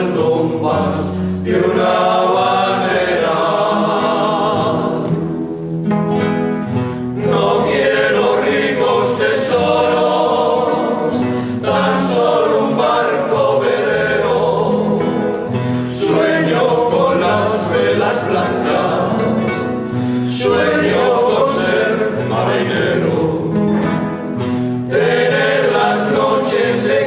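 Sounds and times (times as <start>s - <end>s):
choir singing: 0.0s - 5.7s, 7.1s - 27.0s.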